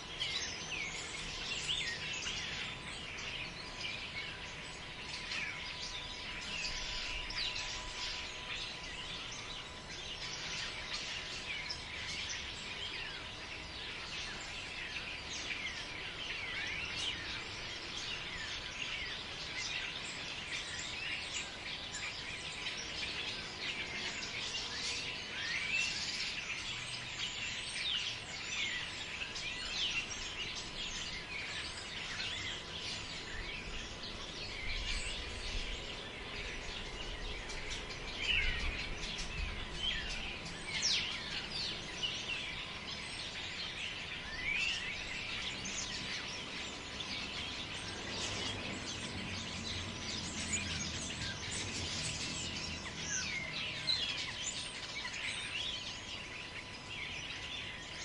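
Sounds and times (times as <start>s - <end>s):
forest birds chirping: 0.0s - 58.0s.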